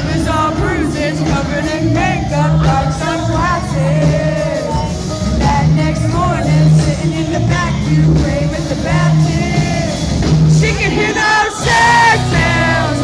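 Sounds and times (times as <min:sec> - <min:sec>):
country-rock band playing: 0:00.0 - 0:13.0
woman singing lead: 0:00.0 - 0:13.0.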